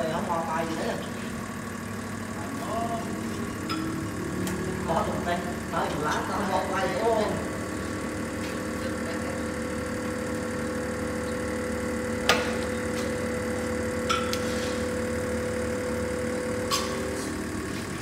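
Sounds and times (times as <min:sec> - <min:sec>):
hydraulic pump humming: 0:00.0 - 0:18.0.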